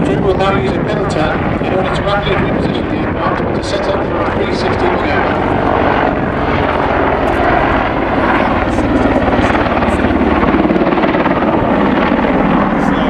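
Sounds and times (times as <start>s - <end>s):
helicopter engine noise: 0.0s - 13.0s
helicopter rotor beating: 0.0s - 13.0s.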